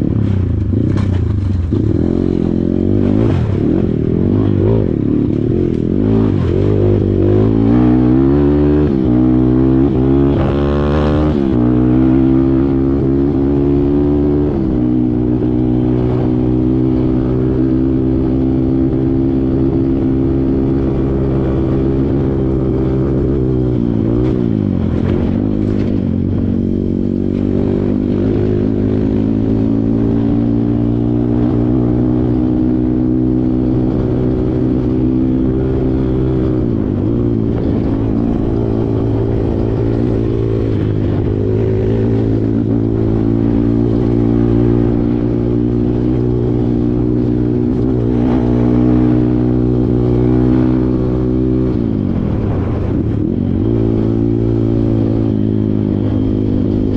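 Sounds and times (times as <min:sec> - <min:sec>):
trail bike engine revving: 0:00.0 - 0:56.9.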